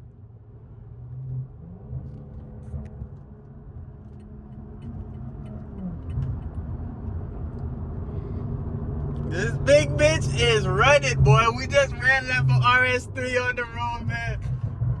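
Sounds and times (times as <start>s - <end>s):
engine and road noise in cabin: 0.0s - 15.0s.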